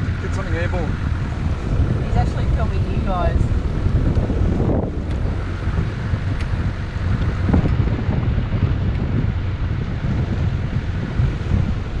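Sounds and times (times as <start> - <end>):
vehicle low rumble: 0.0 - 12.0
wind buffeting microphone: 0.0 - 12.0.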